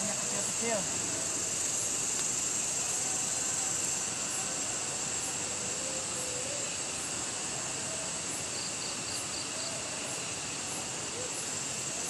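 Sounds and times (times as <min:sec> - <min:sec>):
night insects chirring: 0:00.0 - 0:12.0
quick insect chirps: 0:00.0 - 0:12.0.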